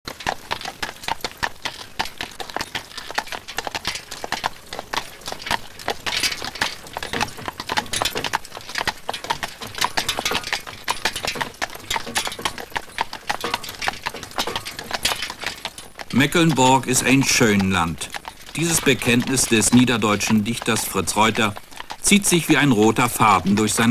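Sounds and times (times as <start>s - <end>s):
horse hooves clip-clopping: 0.1s - 23.9s.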